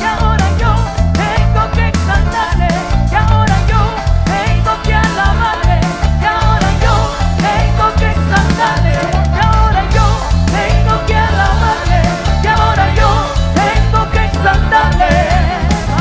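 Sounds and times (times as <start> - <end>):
bass line: 0.0 - 16.0
drum kit beat: 0.0 - 16.0
person singing: 0.0 - 16.0.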